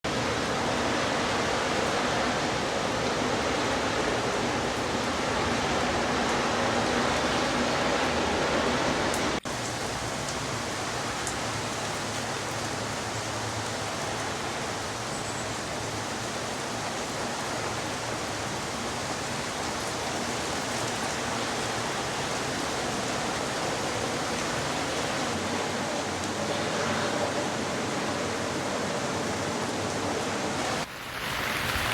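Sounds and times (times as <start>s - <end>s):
wind and rain hissing: 0.1s - 31.9s.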